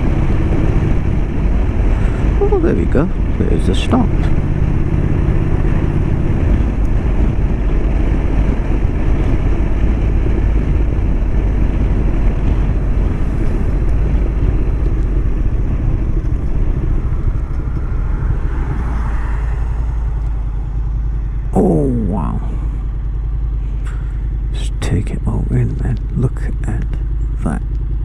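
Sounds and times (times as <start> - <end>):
wind rushing over microphone: 0.0 - 25.6
motorcycle engine running: 0.0 - 28.0.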